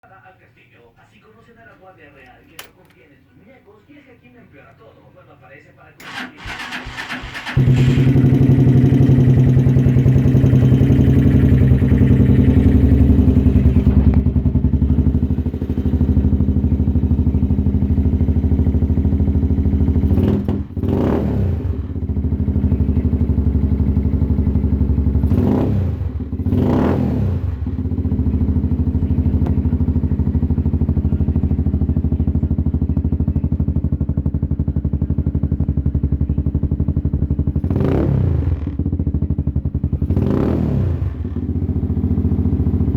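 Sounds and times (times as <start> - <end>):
motorcycle engine idling: 6.0 - 42.9
motorcycle throttle blips: 6.0 - 42.9.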